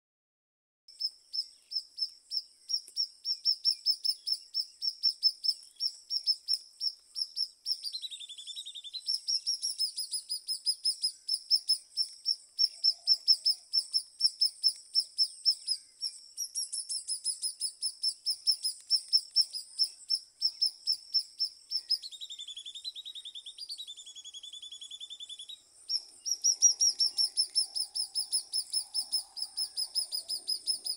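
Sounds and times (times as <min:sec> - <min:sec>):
small bird chirping: 0:00.9 - 0:30.9.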